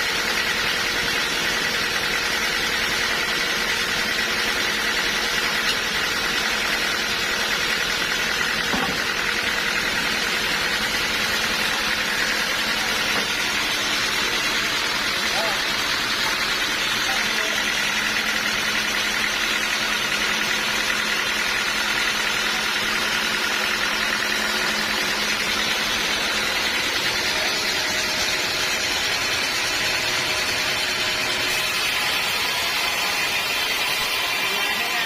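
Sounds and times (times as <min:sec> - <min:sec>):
sawmill machine drone: 0:00.0 - 0:35.0.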